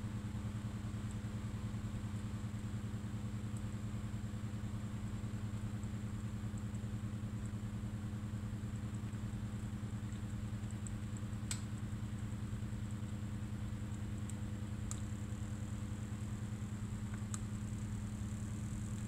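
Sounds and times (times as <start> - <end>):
low pulsing mechanical hum: 0.0 - 19.0.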